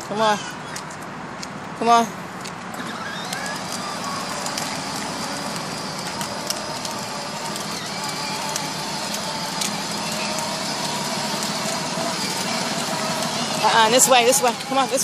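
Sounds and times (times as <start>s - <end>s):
plastic wheels rolling on concrete: 1.8s - 15.0s.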